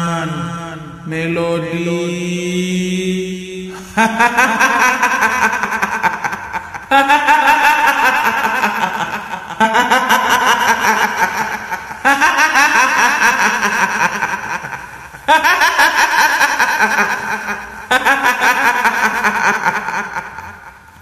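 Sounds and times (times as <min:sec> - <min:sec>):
woman's high-pitched cackle: 0:03.9 - 0:20.8.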